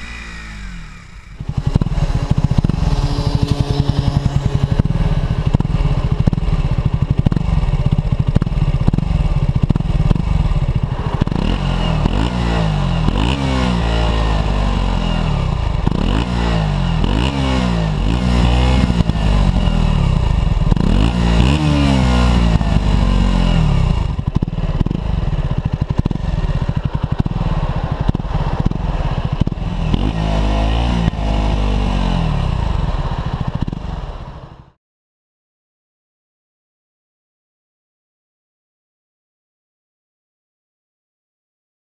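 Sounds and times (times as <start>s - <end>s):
motorcycle engine revving: 0.0s - 34.8s.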